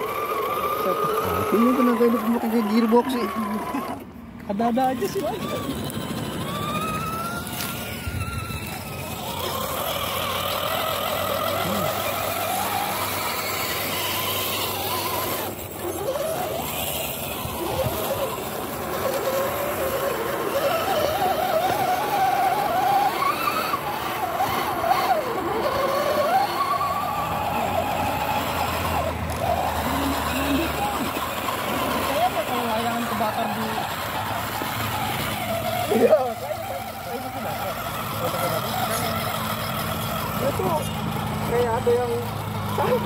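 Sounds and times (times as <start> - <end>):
electric motors and gearboxes whining: 0.0 - 43.0.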